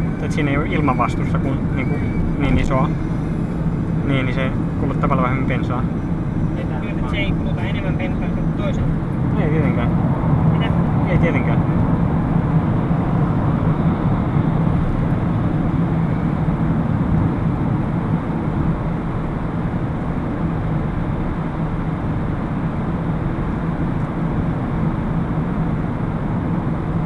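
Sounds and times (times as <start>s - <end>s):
car cabin road and engine noise: 0.0s - 27.0s.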